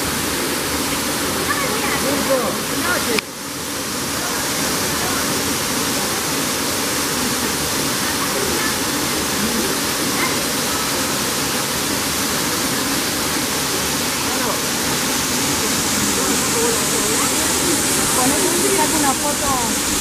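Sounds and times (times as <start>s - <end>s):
waterfall splashing onto rocks: 0.0s - 20.0s.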